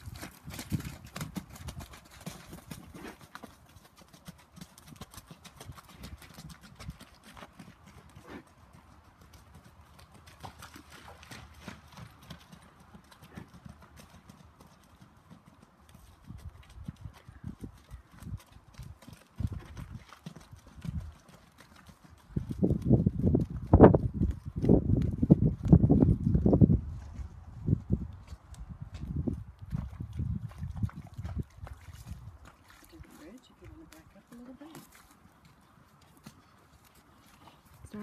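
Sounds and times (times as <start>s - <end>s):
horse hoofbeats on muddy ground: 0.0s - 38.0s.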